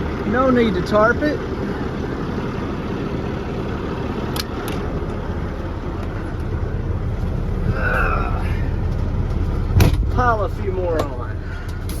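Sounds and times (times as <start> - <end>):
farm vehicle engine rumbling: 0.0 - 12.0.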